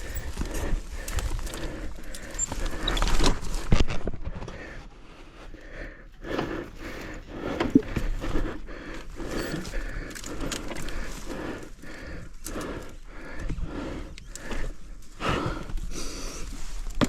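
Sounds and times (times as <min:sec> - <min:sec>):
hard breathing: 0:00.0 - 0:03.7, 0:04.3 - 0:17.0.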